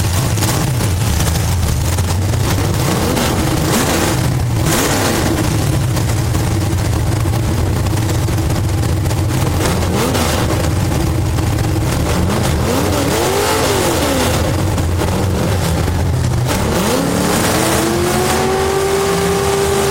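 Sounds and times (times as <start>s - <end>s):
race car engine revving: 0.0s - 19.9s.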